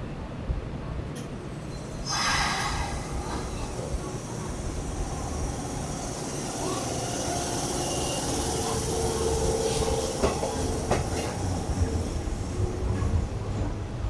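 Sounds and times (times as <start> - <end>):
electric train running: 1.2 - 14.0.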